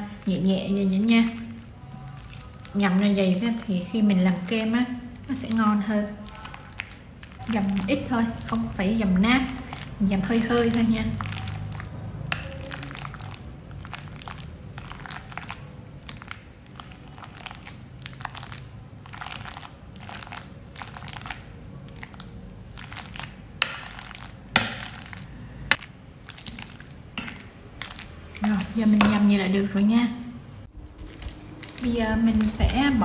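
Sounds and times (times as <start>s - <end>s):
bananas squishing: 0.0s - 29.8s, 30.6s - 33.0s.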